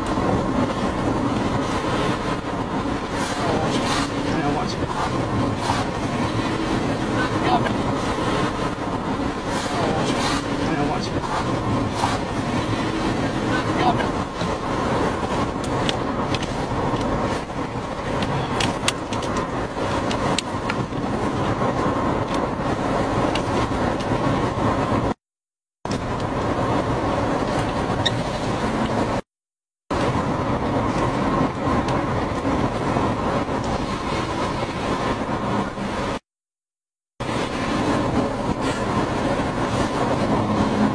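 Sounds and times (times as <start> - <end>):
strong storm wind roaring: 0.0 - 25.2, 25.9 - 29.2, 29.9 - 36.2, 37.2 - 40.9.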